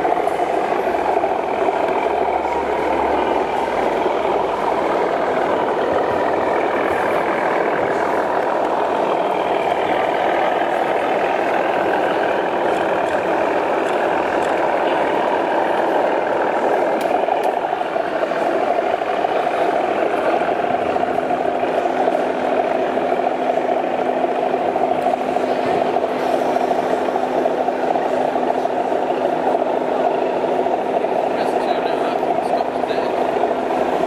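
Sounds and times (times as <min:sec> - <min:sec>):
diesel engine through small speaker: 0:00.0 - 0:34.0.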